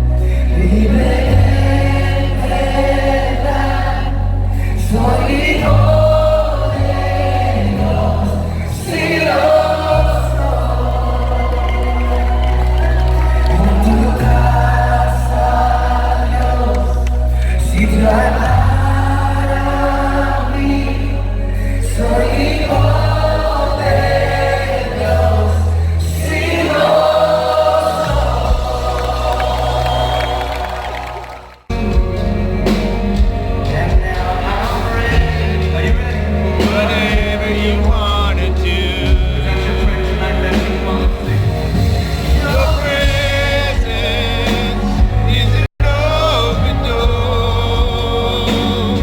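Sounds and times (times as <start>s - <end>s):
deep sustained bass notes: 0.0s - 49.0s
group singing over a band: 0.6s - 12.4s, 13.5s - 30.6s, 32.7s - 41.5s, 42.2s - 49.0s.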